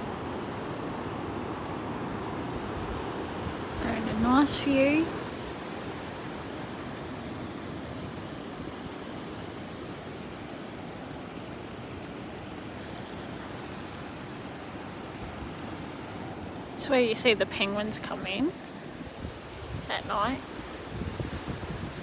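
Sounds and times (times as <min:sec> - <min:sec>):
ocean surf: 0:00.0 - 0:22.0
wind: 0:00.0 - 0:22.0.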